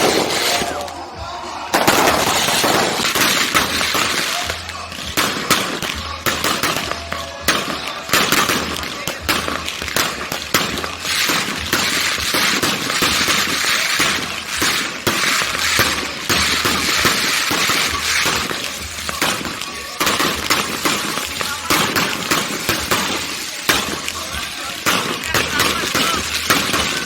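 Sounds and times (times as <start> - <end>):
fireworks bangs and cracks: 0.0 - 27.0
fireworks crackling and popping: 0.0 - 27.0.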